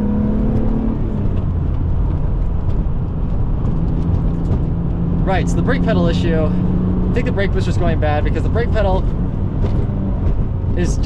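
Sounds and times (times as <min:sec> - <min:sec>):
car engine revving: 0:00.0 - 0:11.0
road noise: 0:00.0 - 0:11.0.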